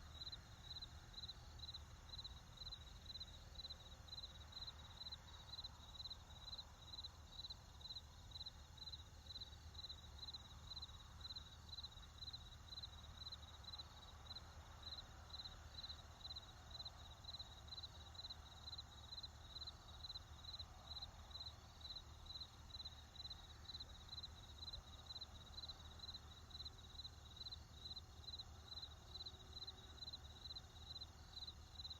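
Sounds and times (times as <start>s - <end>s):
crickets chirping: 0.0s - 31.9s.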